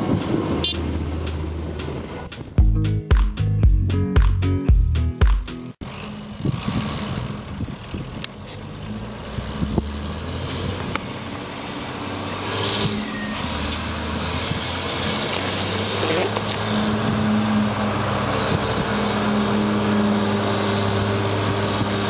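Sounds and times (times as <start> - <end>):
tractor diesel engine running: 0.0 - 2.8, 5.8 - 22.0.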